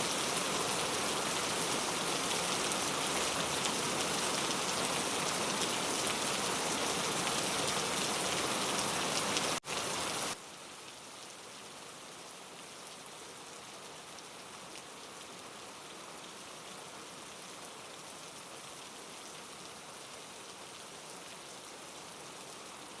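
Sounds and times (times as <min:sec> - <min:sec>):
heavy rain: 0:00.0 - 0:23.0
light rain: 0:00.0 - 0:23.0.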